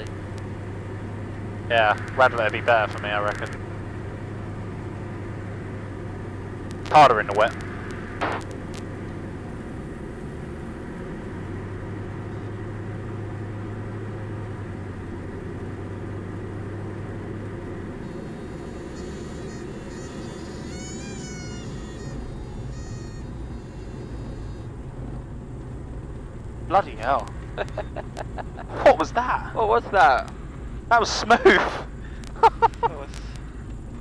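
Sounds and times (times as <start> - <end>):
aircraft cabin engine drone: 0.0 - 34.0
low hum: 0.0 - 34.0.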